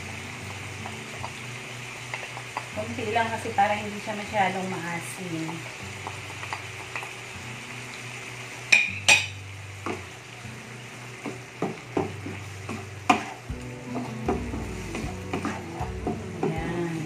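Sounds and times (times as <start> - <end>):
chicken sizzling in frying pan: 0.0 - 17.0.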